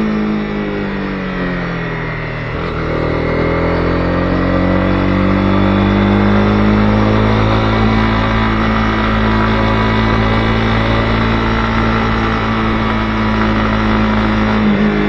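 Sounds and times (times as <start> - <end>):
motorcycle engine accelerating: 0.0 - 15.0
wind and road noise: 0.0 - 15.0.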